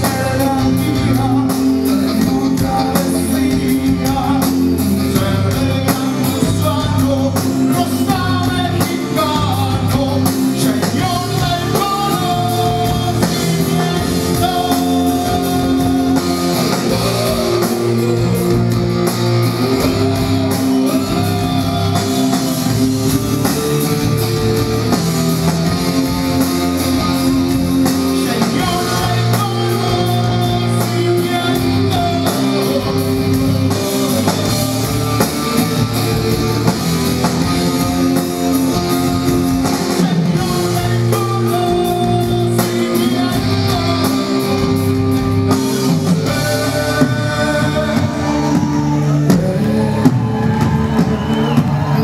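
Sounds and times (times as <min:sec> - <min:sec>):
man singing: 0:00.0 - 0:25.0, 0:26.0 - 0:36.4, 0:37.8 - 0:52.0
rock band playing live: 0:00.0 - 0:52.0.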